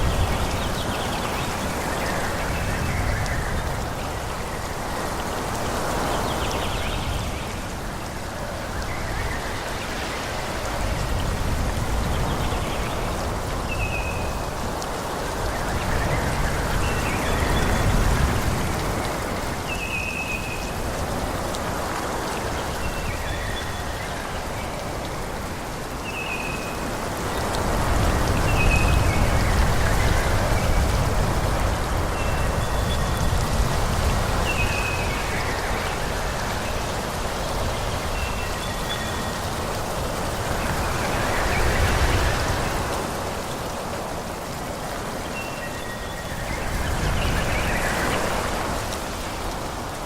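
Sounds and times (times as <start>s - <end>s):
wind rushing through trees: 0.0s - 50.0s.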